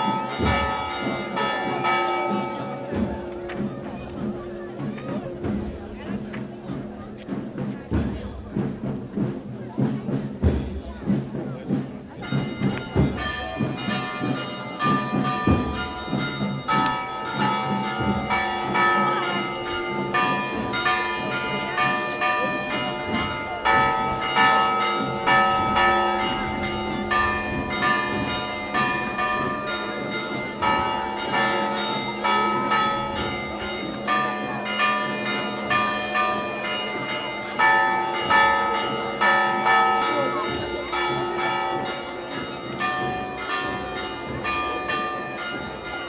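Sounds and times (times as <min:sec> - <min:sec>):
church bells ringing: 0:00.0 - 0:09.2, 0:11.1 - 0:46.0.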